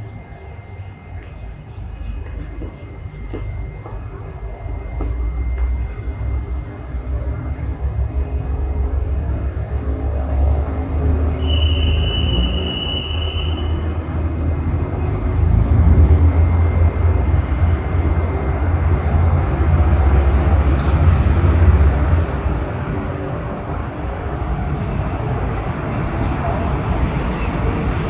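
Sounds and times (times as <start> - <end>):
diesel train engine rumble: 0.0 - 28.0
rail noise: 0.0 - 28.0.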